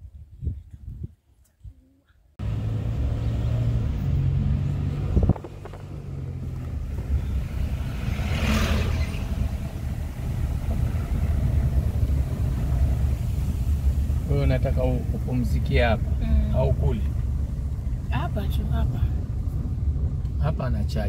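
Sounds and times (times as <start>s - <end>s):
car engine and road rumble: 2.4s - 21.0s.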